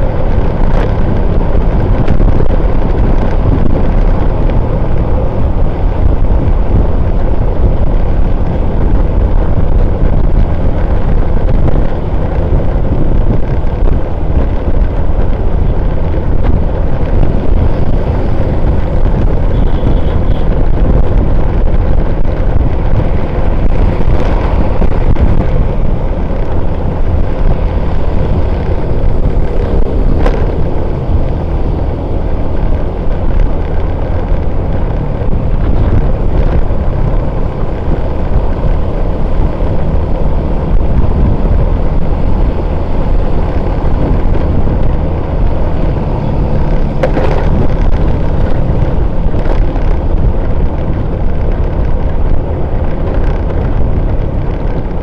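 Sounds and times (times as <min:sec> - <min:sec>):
road and traffic noise: 0:00.0 - 0:55.0
wind rumble on microphone: 0:00.0 - 0:55.0.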